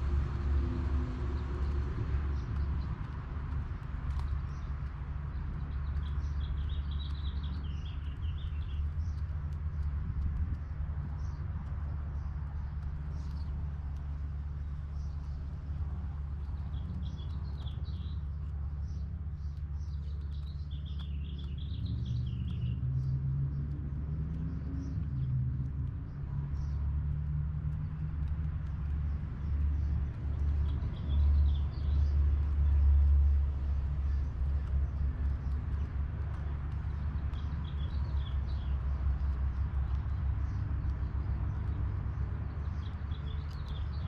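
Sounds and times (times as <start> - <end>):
birds chirping: 4.1 - 44.0.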